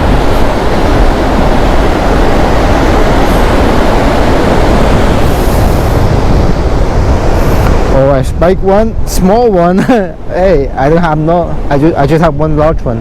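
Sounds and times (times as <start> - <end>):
ocean surf roaring: 0.0 - 13.0
wind buffeting microphone: 0.0 - 13.0.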